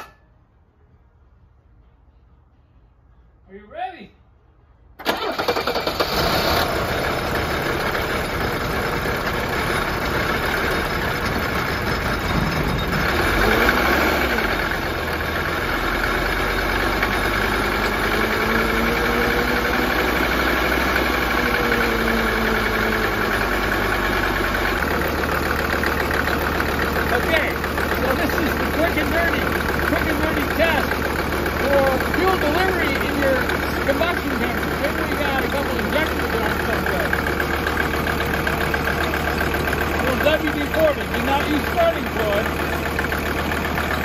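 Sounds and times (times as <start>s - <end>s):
diesel engine idling with clatter: 5.0s - 44.0s.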